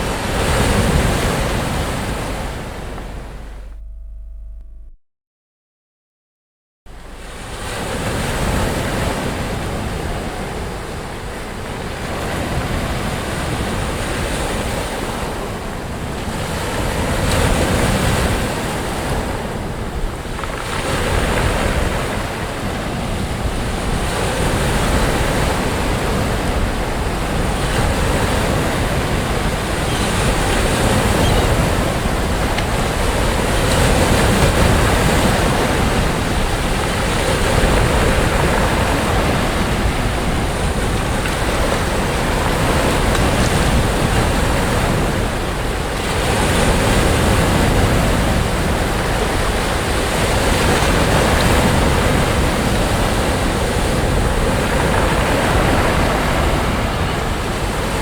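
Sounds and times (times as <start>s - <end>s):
sea waves breaking on a beach: 0.0s - 4.2s, 6.9s - 58.0s
wind on the microphone: 6.9s - 58.0s.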